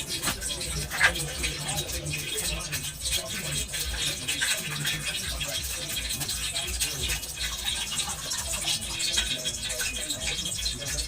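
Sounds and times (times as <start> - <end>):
rhythmic scrubbing strokes: 0.0 - 11.0.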